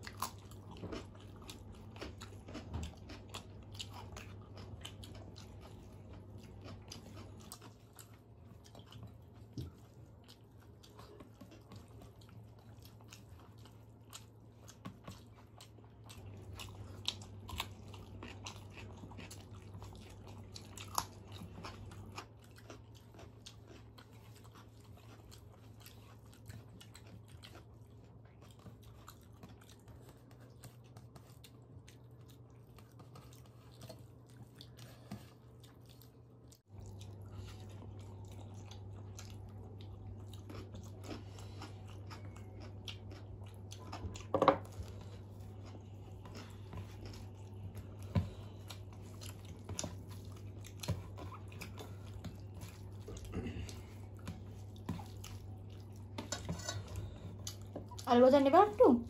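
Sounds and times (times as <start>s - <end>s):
people chewing and crunching: 0.0s - 59.0s
steady low hum: 0.0s - 59.0s.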